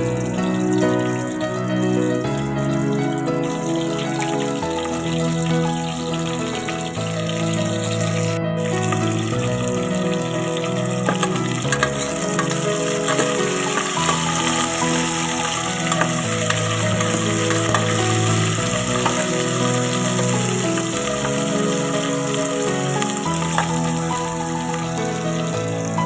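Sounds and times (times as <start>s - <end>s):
food sizzling in hot oil: 0.0s - 26.0s
instrumental background music: 0.0s - 26.0s.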